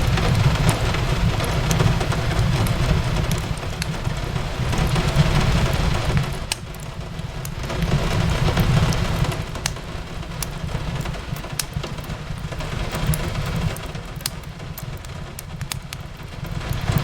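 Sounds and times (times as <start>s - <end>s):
rain on a window: 0.0s - 17.0s
wood fire crackling and popping: 0.0s - 17.0s.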